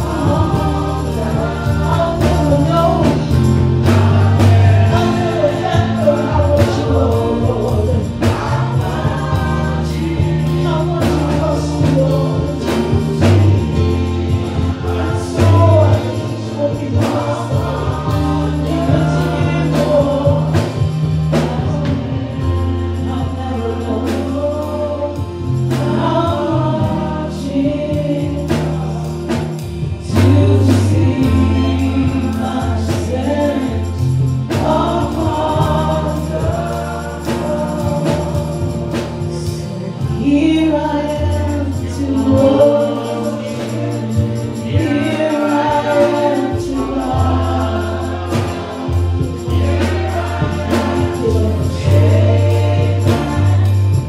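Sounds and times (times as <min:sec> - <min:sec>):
band with bass and beat: 0:00.0 - 0:54.0
choir singing gospel song: 0:00.0 - 0:54.0.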